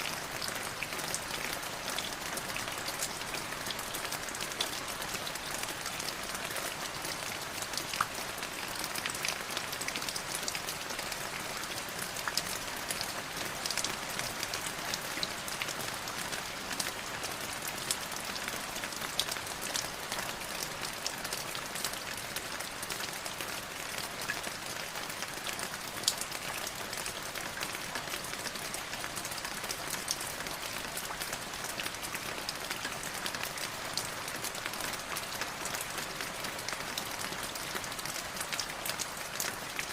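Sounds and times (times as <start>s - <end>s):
raindrops pattering on a surface: 0.1s - 39.9s.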